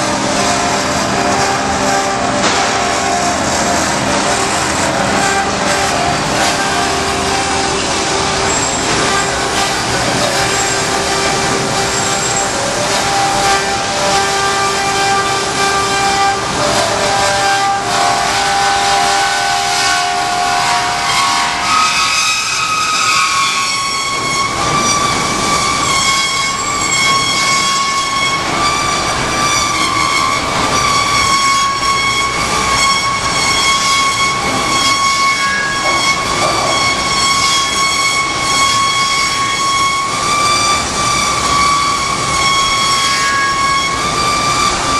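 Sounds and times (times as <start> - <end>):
band saw cutting metal: 0.0 - 44.9
blade ringing squeal: 0.0 - 44.9.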